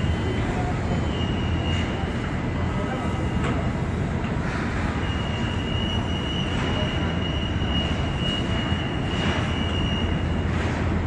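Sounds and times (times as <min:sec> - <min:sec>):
thin high whine: 0:00.0 - 0:10.8
construction and city rumble: 0:00.0 - 0:11.0.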